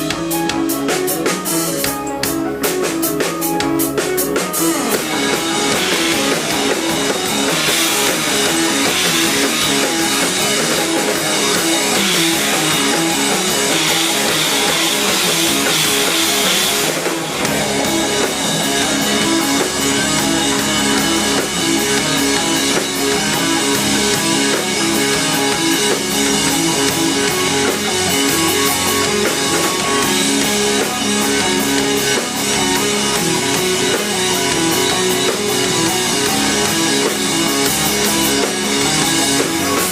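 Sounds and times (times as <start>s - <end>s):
rock band playing: 0.0s - 39.9s
cymbals crashing: 4.6s - 39.9s.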